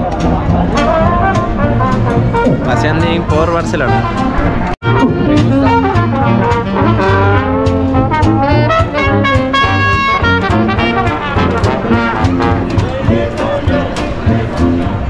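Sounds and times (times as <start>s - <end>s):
brass-led music with beat: 0.0s - 15.0s.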